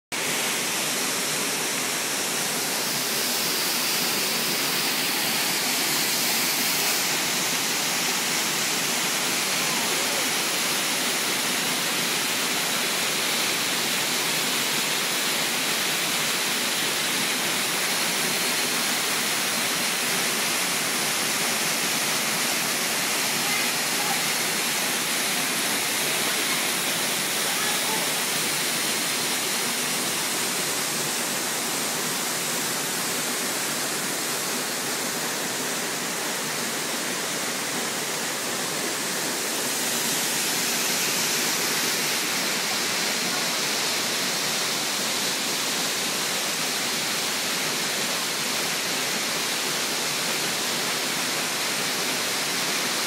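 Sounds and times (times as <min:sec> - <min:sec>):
small waterfall rushing: 0:00.1 - 0:53.0.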